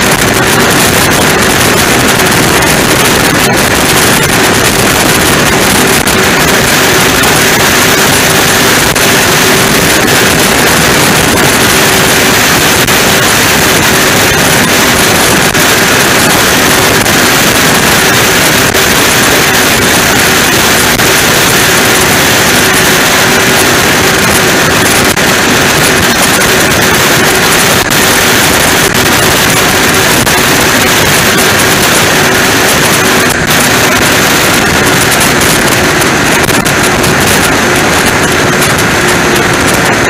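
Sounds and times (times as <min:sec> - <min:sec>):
powerboat engines running: 0:00.0 - 0:40.0.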